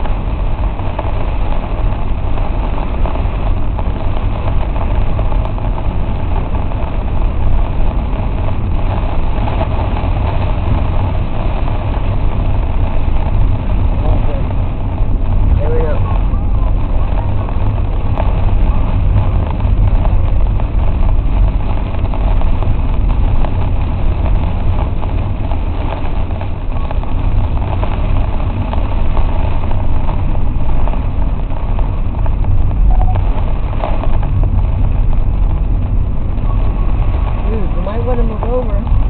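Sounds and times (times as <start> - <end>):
car rumbling on wet road: 0.0 - 39.0
hiss of rain and spray: 0.0 - 39.0.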